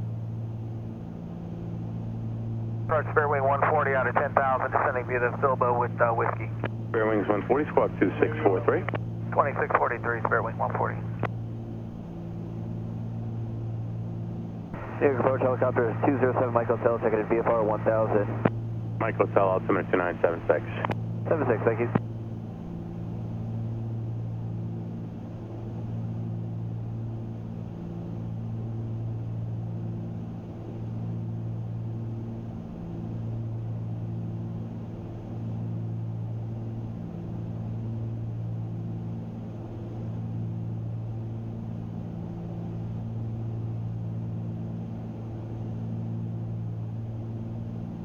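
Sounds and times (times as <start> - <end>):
aircraft engines droning in cabin: 0.0 - 48.0.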